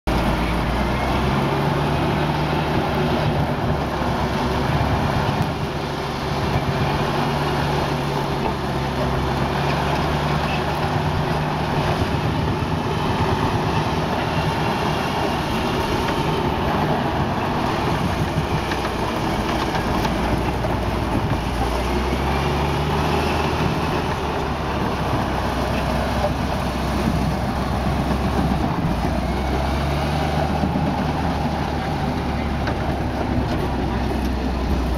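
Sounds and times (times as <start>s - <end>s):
armored vehicle engine running: 0.1s - 34.9s.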